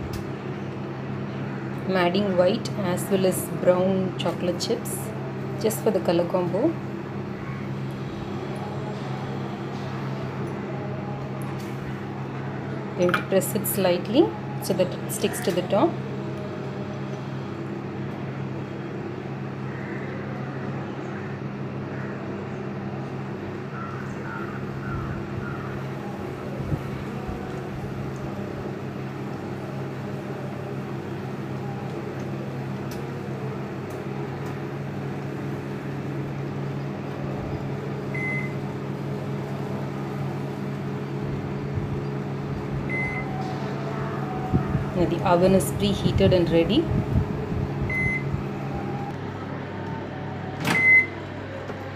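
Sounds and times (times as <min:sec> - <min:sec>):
oven humming: 0:00.0 - 0:51.9.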